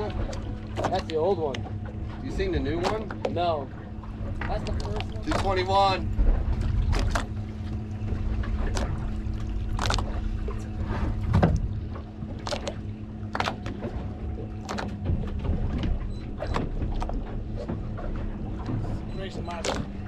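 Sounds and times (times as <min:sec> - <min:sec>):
wind rumble: 0:00.0 - 0:16.2
outboard motors idling: 0:00.0 - 0:20.0.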